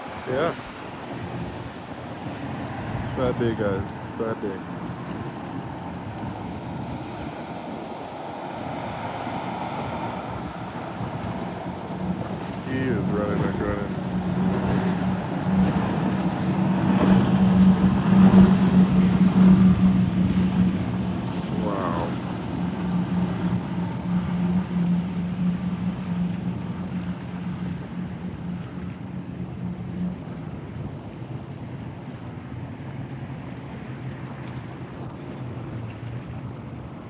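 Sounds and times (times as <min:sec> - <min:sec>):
wind buffeting microphone: 0:00.0 - 0:31.6
motorboat engine drone: 0:00.0 - 0:37.0
surf washing: 0:00.0 - 0:37.0.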